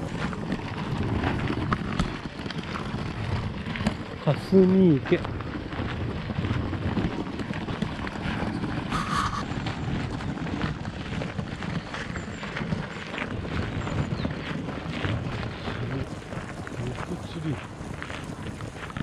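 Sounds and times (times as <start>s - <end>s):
footsteps on garden path: 0.0s - 19.0s
wind buffeting microphone: 0.0s - 19.0s.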